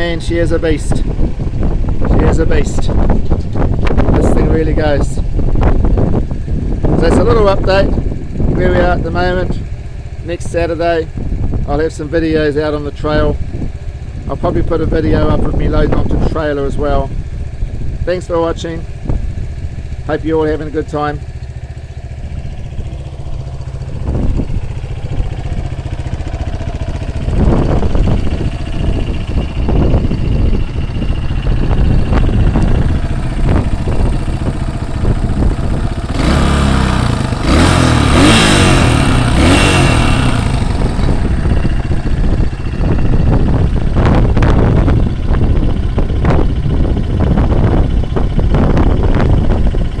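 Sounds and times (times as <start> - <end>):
motorcycle engine revving: 0.0 - 50.0
wind buffeting microphone: 0.0 - 50.0.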